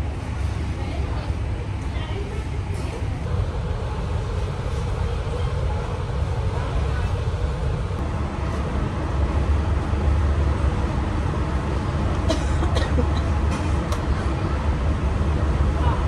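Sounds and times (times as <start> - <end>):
low shop rumble: 0.0 - 16.0.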